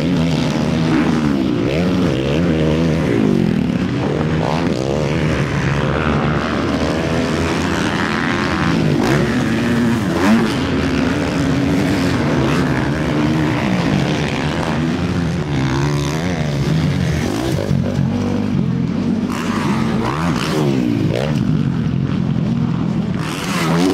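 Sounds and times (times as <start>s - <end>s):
motocross bike engines revving: 0.0s - 23.9s.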